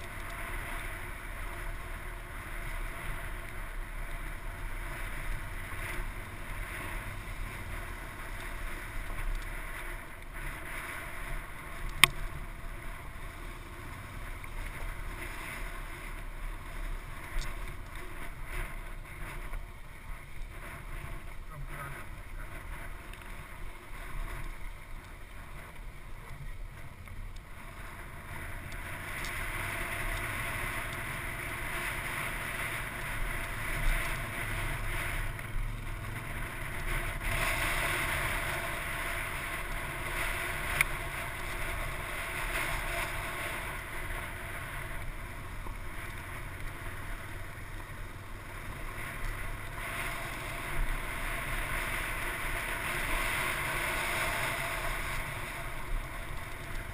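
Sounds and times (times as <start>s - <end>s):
wind rushing over microphone: 0.0s - 56.9s.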